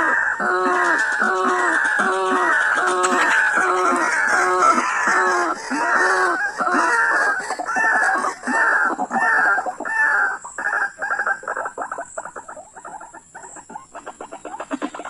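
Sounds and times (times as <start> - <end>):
bird harsh croaking calls: 0.0 - 15.0.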